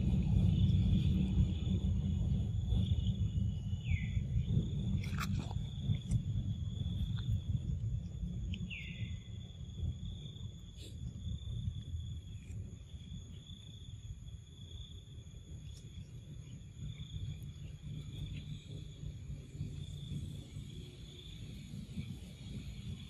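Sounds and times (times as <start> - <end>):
high insect drone: 0.0 - 23.0
low rumble: 0.0 - 23.0.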